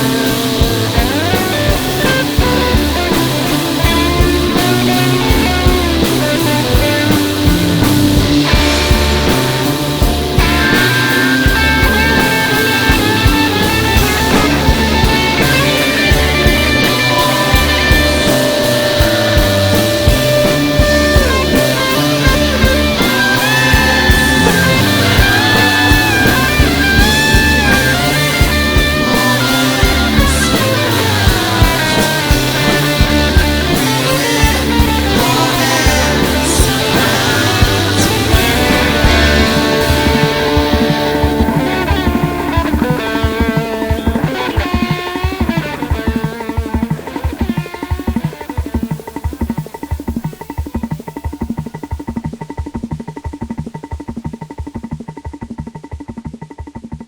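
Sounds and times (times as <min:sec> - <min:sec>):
electric lead guitar bending notes: 0:00.0 - 0:55.1
bass guitar: 0:00.0 - 0:56.3
steady drum beat: 0:00.0 - 0:57.0.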